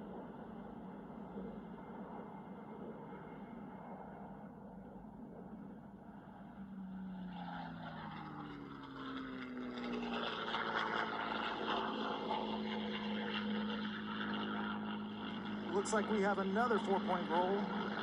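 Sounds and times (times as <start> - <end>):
aircraft engine passing: 0.0 - 18.0.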